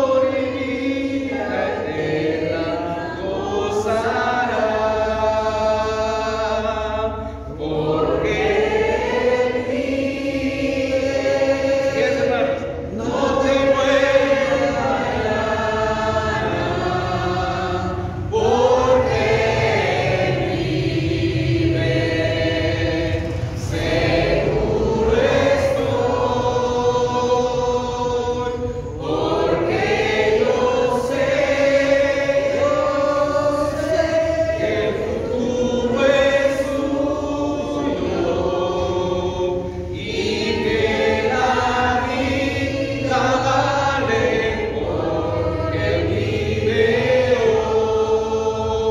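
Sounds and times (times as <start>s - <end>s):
congregation singing a hymn: 0.0s - 48.9s
man leading singing: 0.0s - 48.9s.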